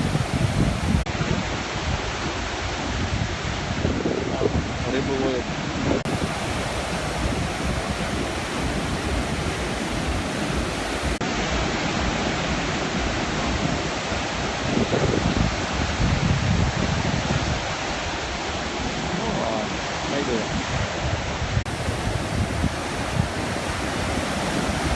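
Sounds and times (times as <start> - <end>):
sea surf rushing: 0.0 - 24.9
wind rumbling on microphone: 0.0 - 24.9.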